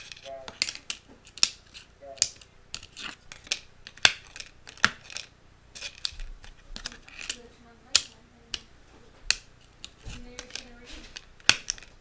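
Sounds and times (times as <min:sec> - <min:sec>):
fidget toy popping: 0:00.0 - 0:12.0.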